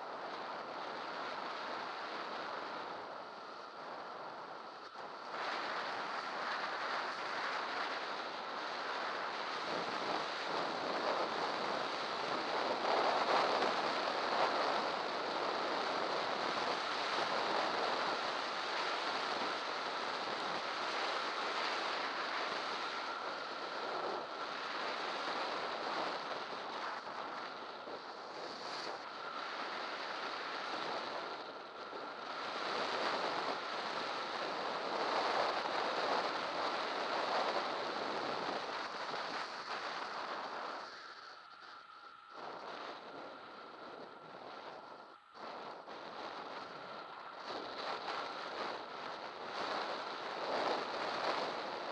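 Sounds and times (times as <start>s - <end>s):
faint steady whine: 0.0s - 51.9s
wind rushing over microphone: 0.0s - 51.9s.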